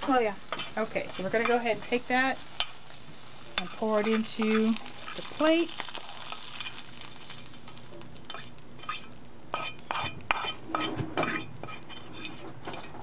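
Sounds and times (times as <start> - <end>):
metal utensil scraping a skillet: 0.1 - 6.9, 7.7 - 13.0.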